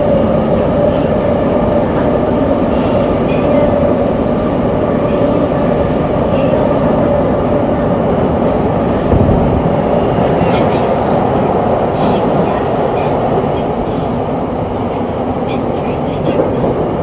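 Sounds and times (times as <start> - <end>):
subway car wheels rumbling on rail: 0.0 - 17.0.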